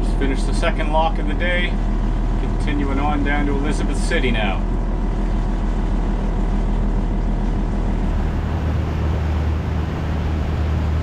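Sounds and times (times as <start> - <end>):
boat diesel engine droning: 0.0 - 11.0.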